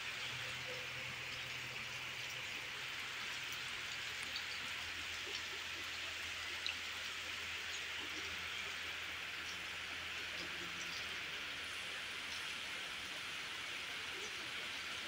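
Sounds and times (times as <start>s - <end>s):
rain falling on water: 0.0s - 15.0s.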